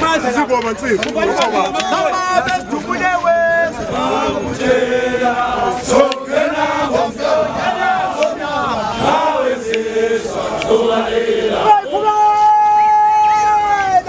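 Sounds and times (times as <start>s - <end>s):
men chanting and singing: 0.0s - 14.0s.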